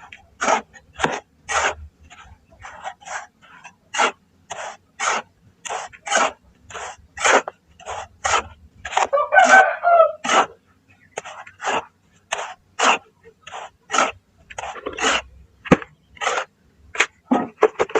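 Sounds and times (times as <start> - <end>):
grainy shapes crunching: 0.0 - 17.9.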